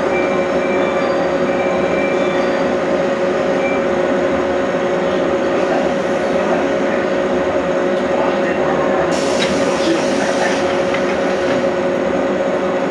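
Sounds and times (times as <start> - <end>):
train equipment humming: 0.0 - 12.9.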